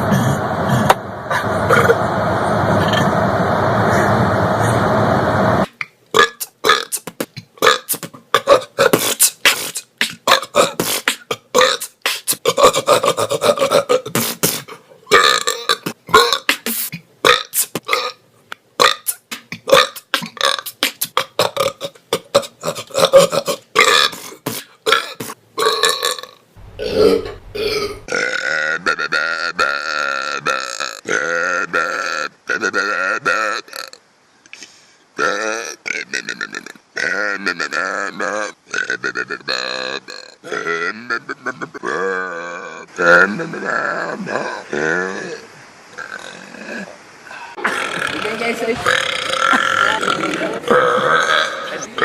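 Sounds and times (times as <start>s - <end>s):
man belching: 6.2s - 16.7s, 17.3s - 18.2s, 18.8s - 34.0s, 35.2s - 46.9s, 47.6s - 52.0s.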